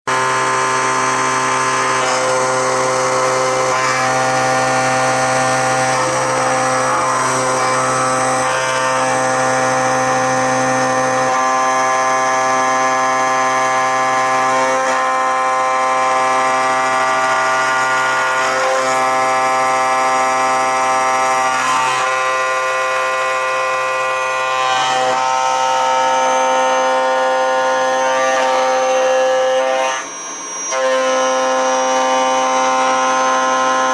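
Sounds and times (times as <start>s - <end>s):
machine tool whine: 0.1s - 33.9s.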